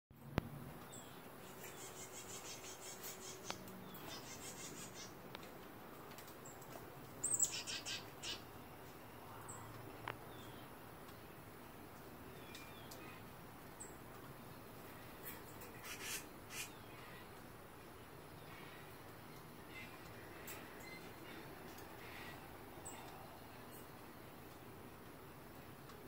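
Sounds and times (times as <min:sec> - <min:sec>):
songbirds chirping: 0:00.2 - 0:26.0.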